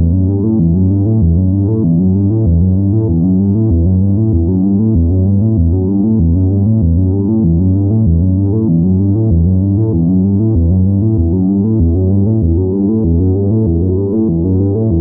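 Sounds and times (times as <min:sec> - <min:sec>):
synthesizer low note sequence: 0:00.0 - 0:15.0.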